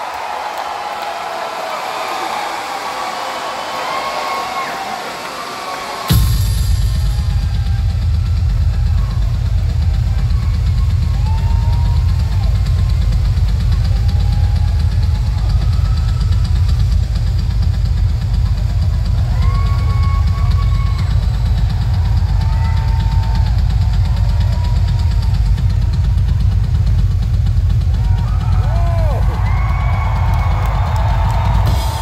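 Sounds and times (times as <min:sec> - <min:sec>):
faint crowd shouts: 0:00.0 - 0:27.0, 0:27.7 - 0:32.0
double bass drum roll: 0:06.1 - 0:32.0.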